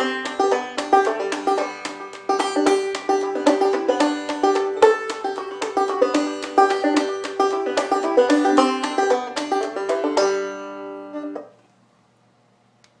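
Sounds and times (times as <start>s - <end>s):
fast plucked banjo tune: 0.0s - 11.5s.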